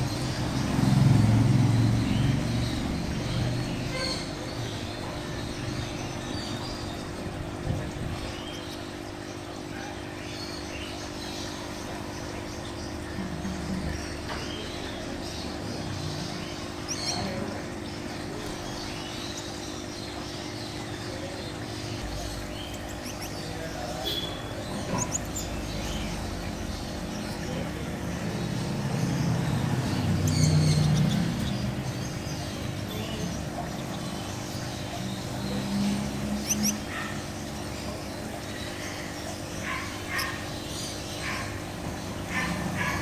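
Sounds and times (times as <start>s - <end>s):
finches chirping: 0.0s - 43.0s.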